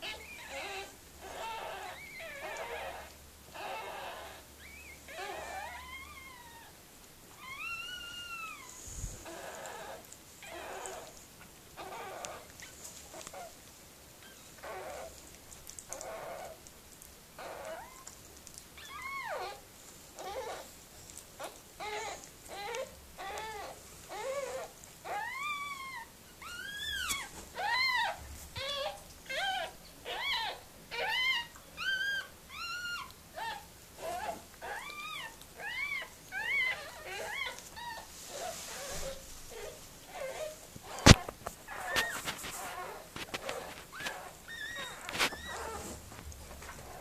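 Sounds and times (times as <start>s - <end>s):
newborn puppies squealing: 0.0s - 13.6s, 14.2s - 16.7s, 17.4s - 47.0s.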